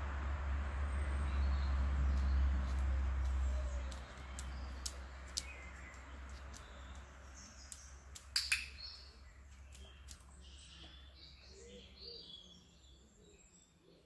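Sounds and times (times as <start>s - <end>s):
birds chirping: 0.6s - 14.0s.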